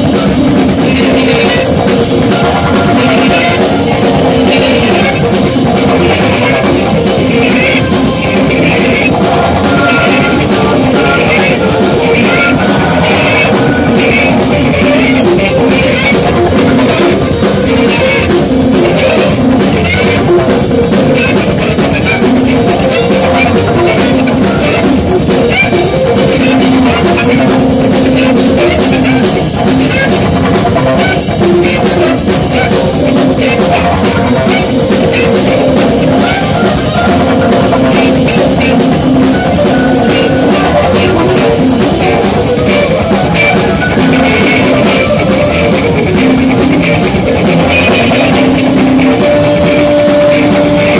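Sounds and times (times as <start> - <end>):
drum kit with cymbals: 0.0 - 50.9
electric guitar: 0.0 - 50.9
jazz-rock band playing live: 0.0 - 50.9.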